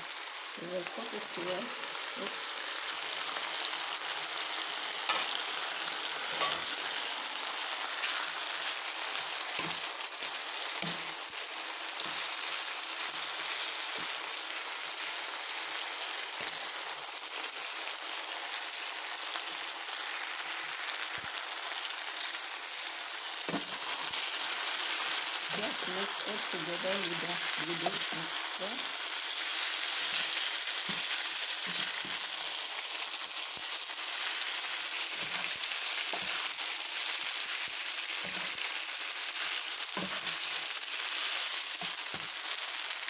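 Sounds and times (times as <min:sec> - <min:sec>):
food sizzling in a frying pan: 0:00.0 - 0:43.0.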